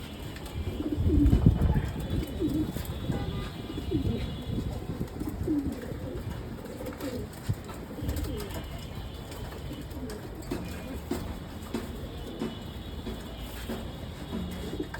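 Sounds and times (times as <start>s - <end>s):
pigeons cooing: 0.0s - 14.9s.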